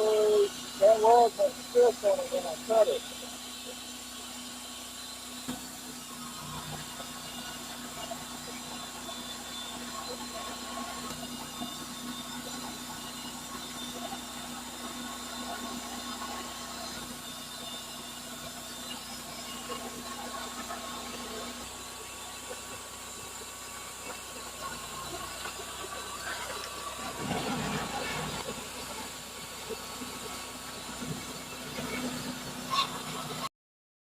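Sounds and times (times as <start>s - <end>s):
band sawmill sawing a log: 0.0s - 33.5s.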